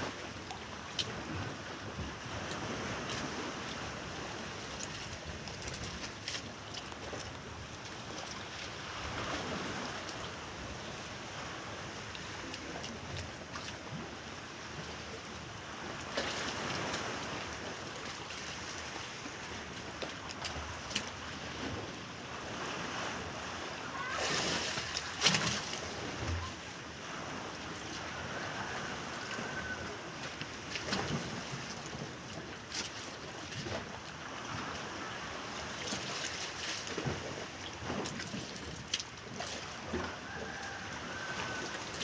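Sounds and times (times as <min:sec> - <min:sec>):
waves splashing against hull: 0:00.0 - 0:42.0
wind: 0:00.0 - 0:42.0.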